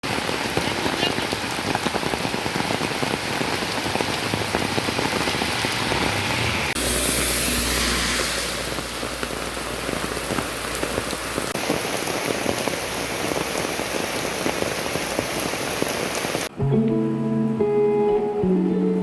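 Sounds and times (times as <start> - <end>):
rain pattering: 0.0 - 16.5.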